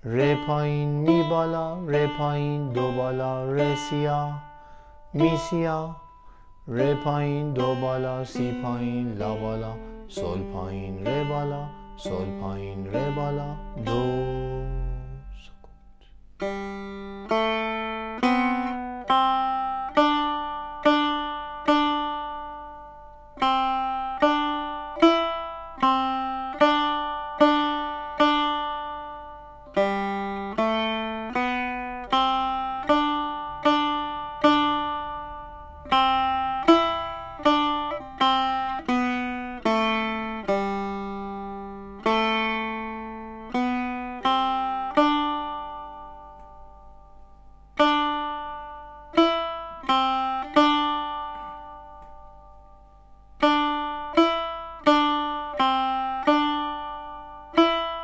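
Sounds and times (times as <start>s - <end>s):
setar plucked melody: 0.0s - 58.0s.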